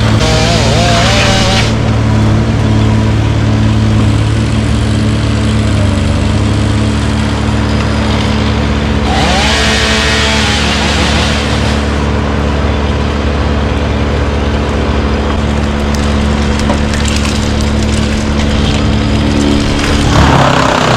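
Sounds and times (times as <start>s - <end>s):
large engine running: 0.0s - 20.9s.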